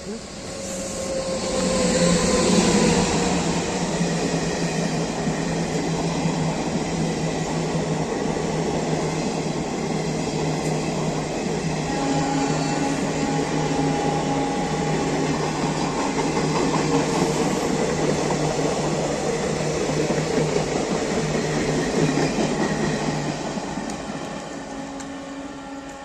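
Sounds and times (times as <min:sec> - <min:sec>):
passing train rumbling: 0:00.0 - 0:26.0.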